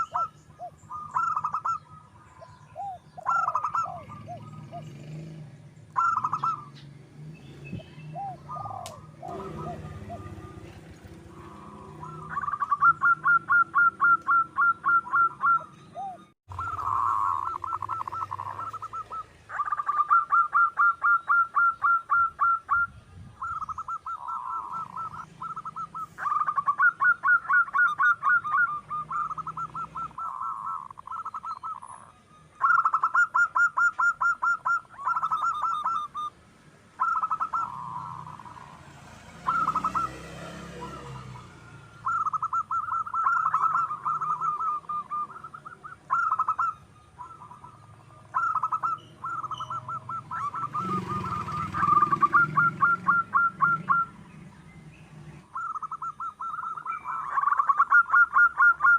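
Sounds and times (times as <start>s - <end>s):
dove cooing: 0.0s - 54.7s, 55.3s - 58.9s.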